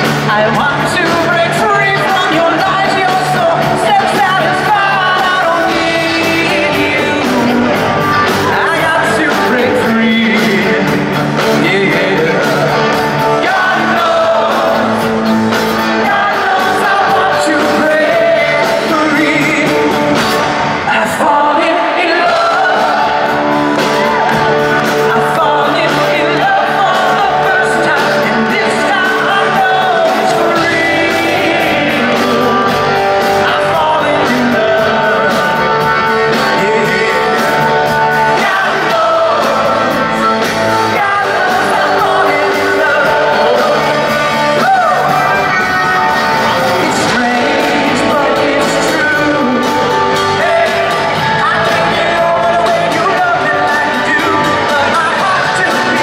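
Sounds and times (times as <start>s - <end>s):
electric guitar: 0.0s - 56.0s
live rock band: 0.0s - 56.0s
man singing: 0.0s - 56.0s.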